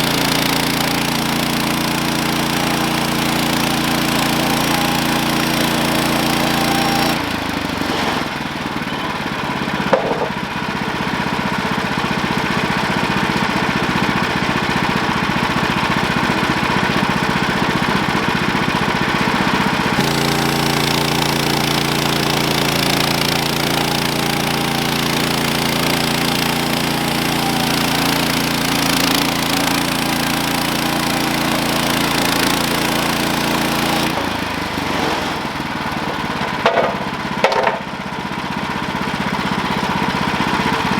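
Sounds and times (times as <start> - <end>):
sawmill gas engine running: 0.0 - 40.9.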